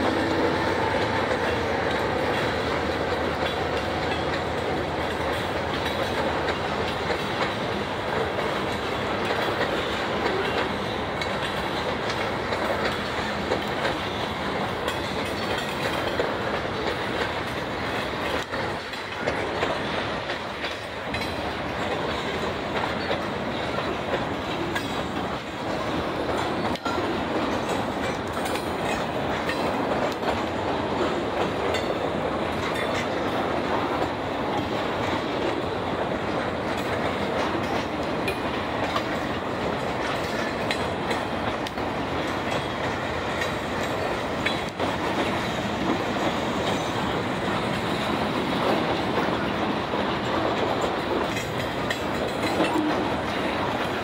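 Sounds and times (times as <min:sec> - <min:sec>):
freight train cars rolling past: 0:00.0 - 0:54.0
wheels clacking over rail joints: 0:00.0 - 0:54.0.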